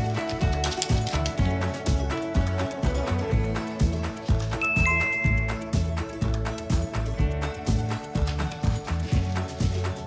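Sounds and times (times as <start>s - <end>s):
music with steady bass beat: 0.0s - 10.0s.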